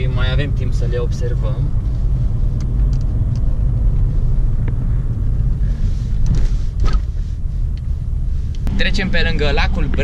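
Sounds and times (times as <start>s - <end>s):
car driving on rough road: 0.0s - 10.0s.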